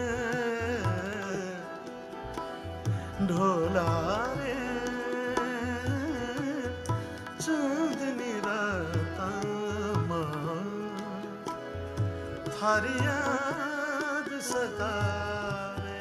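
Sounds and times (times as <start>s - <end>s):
man singing folk melody: 0.0s - 1.8s, 3.2s - 11.6s, 12.5s - 16.0s
tabla strokes: 0.0s - 16.0s.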